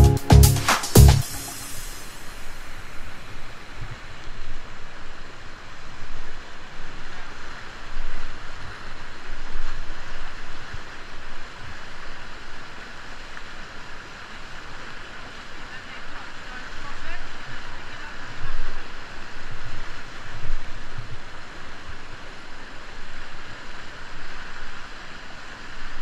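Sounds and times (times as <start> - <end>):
whitewater rushing and splashing: 0.2 - 26.0.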